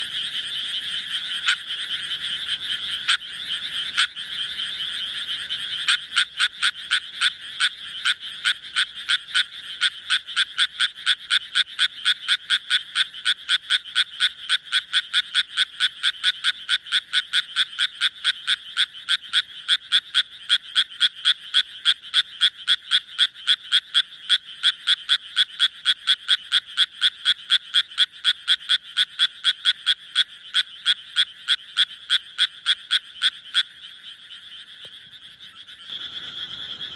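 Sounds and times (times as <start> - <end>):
tree frog croaking: 0.0 - 36.9.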